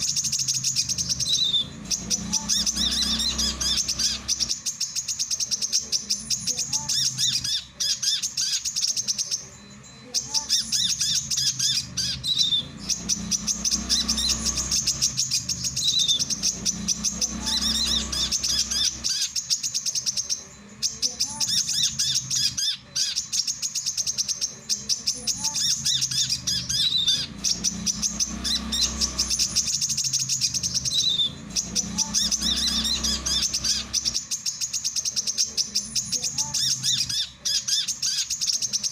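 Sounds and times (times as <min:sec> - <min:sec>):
sunbird chirping song: 0:00.0 - 0:38.9.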